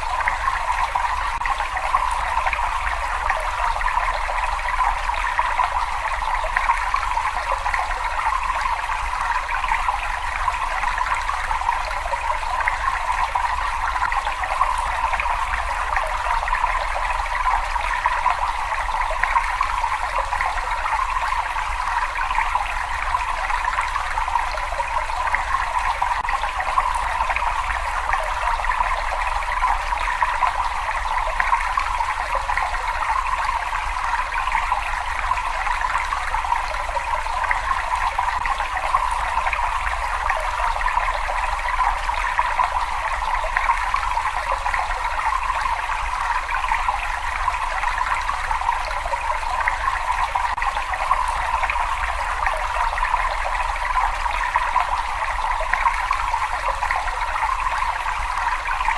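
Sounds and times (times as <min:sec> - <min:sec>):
water trickling and splashing: 0:00.0 - 0:58.9.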